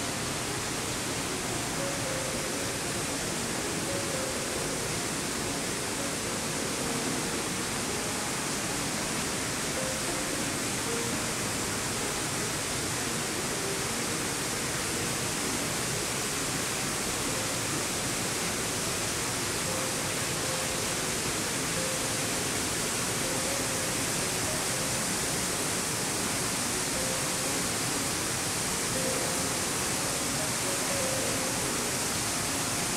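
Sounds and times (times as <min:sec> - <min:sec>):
indoor waterfall rushing: 0:00.0 - 0:32.9.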